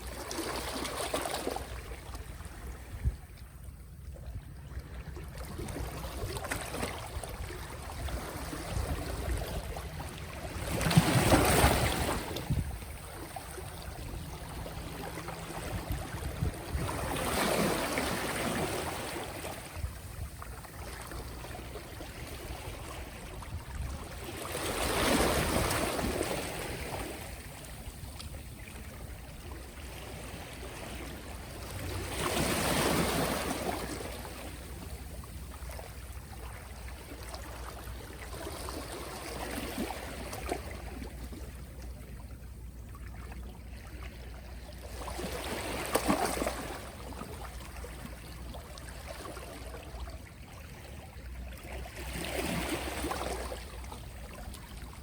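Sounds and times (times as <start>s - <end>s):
soft sea waves breaking: 0.0s - 55.0s.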